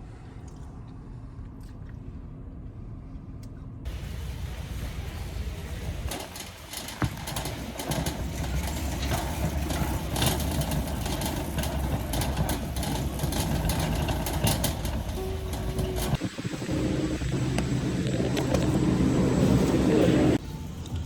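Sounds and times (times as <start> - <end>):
vehicle engine running: 3.9 - 21.0.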